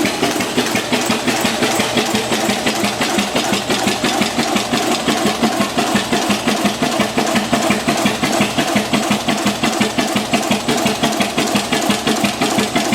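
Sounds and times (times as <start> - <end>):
tractor engine idling: 0.0 - 12.9.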